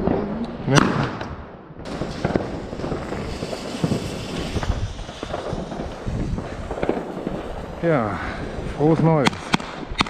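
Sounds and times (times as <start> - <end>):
fireworks and firecrackers banging: 0.0 - 10.0.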